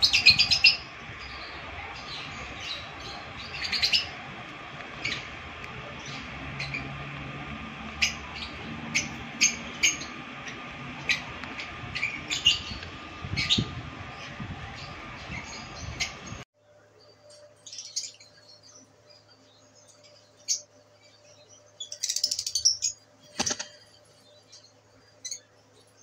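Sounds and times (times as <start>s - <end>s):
lovebirds chirping: 0.0s - 16.4s, 17.0s - 26.0s.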